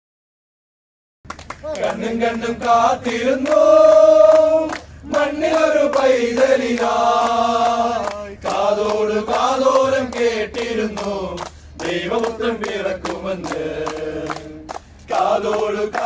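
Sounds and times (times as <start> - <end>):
hand claps: 1.3 - 16.0
men singing in unison: 1.7 - 16.0.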